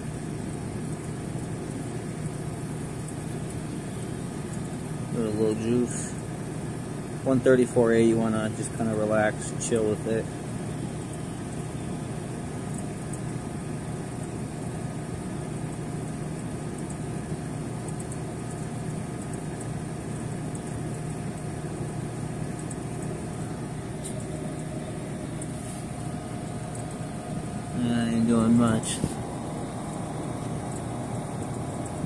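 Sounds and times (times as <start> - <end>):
refrigeration compressor humming: 0.0 - 32.0.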